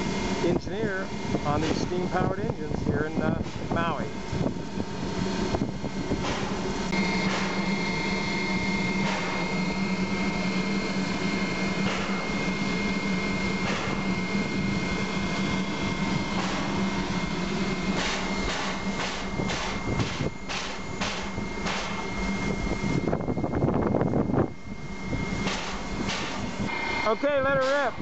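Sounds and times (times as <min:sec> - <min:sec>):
high-pitched whine: 0:00.0 - 0:28.0
steady machine hum: 0:00.0 - 0:28.0.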